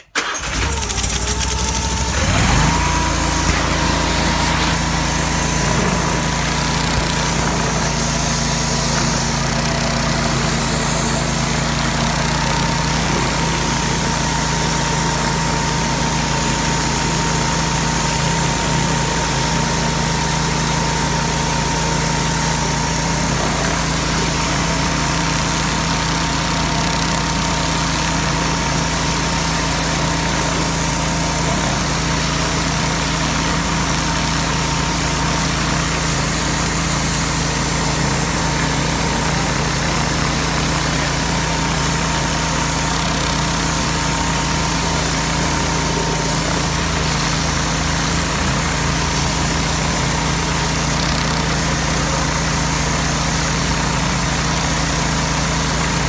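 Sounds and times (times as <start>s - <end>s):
engine drone: 0.0s - 56.0s
high-pressure water jet hissing: 0.2s - 56.0s.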